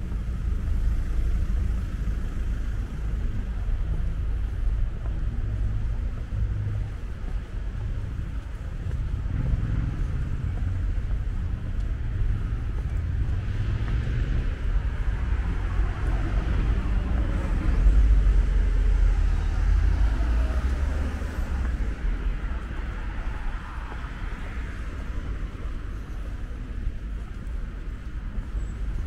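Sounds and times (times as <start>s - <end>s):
cars driving past: 0.0s - 29.0s
low traffic rumble: 0.0s - 29.0s.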